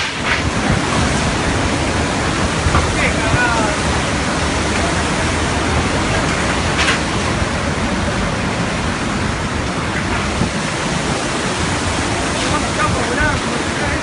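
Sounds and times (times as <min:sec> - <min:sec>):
wind and heavy rain: 0:00.0 - 0:14.0
wind buffeting microphone: 0:00.0 - 0:14.0.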